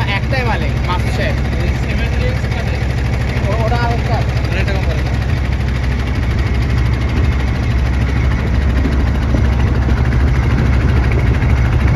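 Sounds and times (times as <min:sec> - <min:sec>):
boat engine rumbling: 0:00.0 - 0:11.9.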